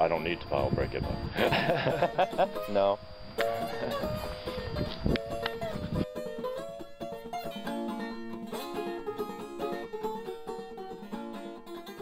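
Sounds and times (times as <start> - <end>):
plucked string music: 0.0 - 12.0.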